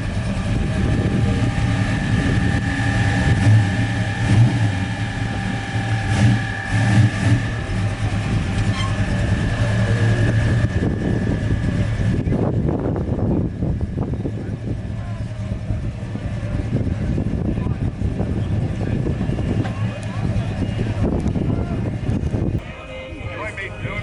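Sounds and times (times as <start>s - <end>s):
high-pitched whine: 0.0s - 21.0s
engine idling: 0.0s - 24.0s.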